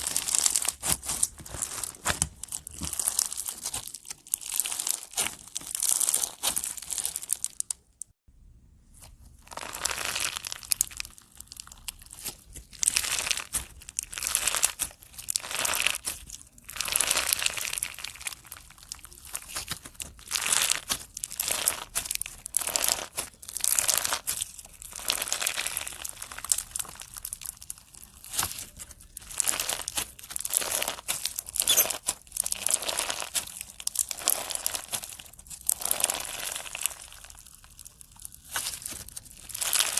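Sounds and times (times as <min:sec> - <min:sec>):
slime crackling as squeezed: 0:00.0 - 0:08.2, 0:09.4 - 0:39.9.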